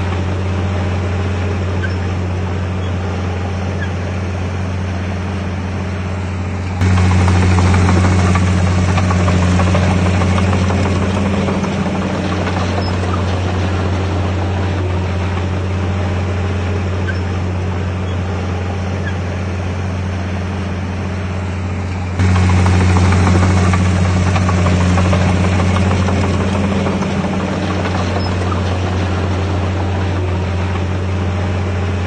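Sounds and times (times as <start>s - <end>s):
heavy diesel engine humming: 0.0s - 32.0s.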